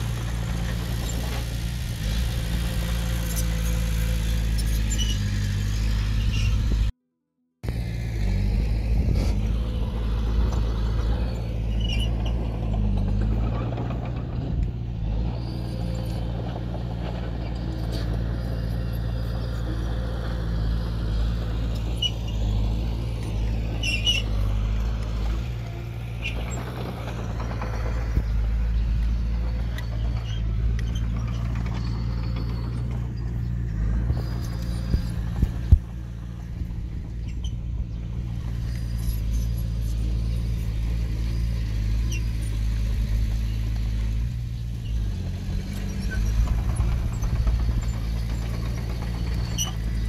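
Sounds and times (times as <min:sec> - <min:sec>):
heavy diesel machinery running: 0:00.0 - 0:07.0, 0:07.6 - 0:50.0
short squeaks and clanks: 0:00.1 - 0:06.9, 0:10.5 - 0:50.0.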